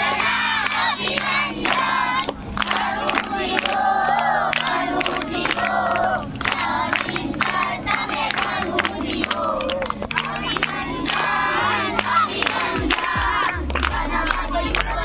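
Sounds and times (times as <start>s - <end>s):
children and adults singing: 0.0s - 15.0s
rhythmic hand clapping: 0.0s - 15.0s.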